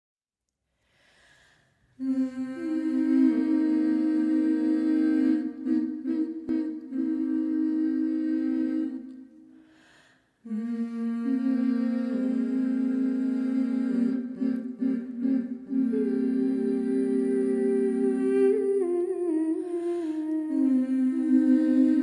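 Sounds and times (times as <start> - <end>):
voices humming in harmony: 2.0 - 9.4, 10.4 - 22.0.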